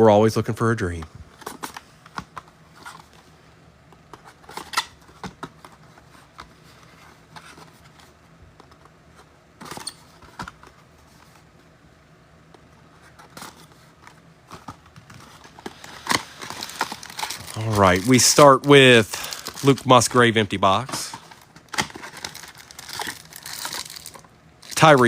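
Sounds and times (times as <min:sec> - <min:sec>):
cardboard clicks and rustles: 0:03.9 - 0:11.7, 0:12.4 - 0:25.0.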